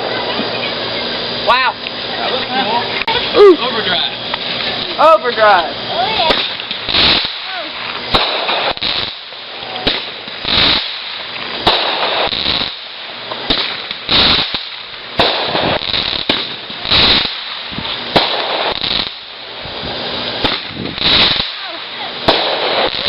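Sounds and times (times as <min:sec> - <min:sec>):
fireworks noisy bursts: 0:00.0 - 0:23.0
fireworks sharp bangs: 0:04.3 - 0:23.0.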